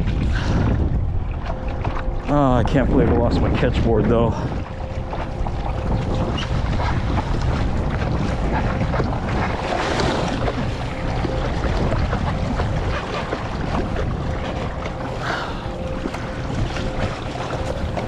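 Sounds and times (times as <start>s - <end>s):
water splashing along kayak hull: 0.0s - 18.0s
wind buffeting microphone: 0.0s - 18.0s.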